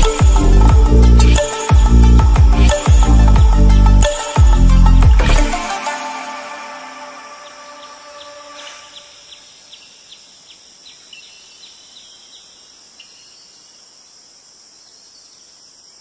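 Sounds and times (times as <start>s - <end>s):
insect chirping: 0.0s - 6.0s, 6.7s - 16.0s.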